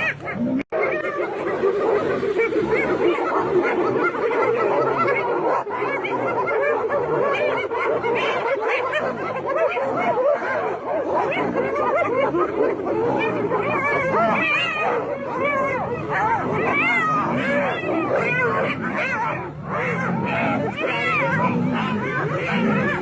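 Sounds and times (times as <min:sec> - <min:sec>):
animals chirping and yelping: 0:00.0 - 0:23.0.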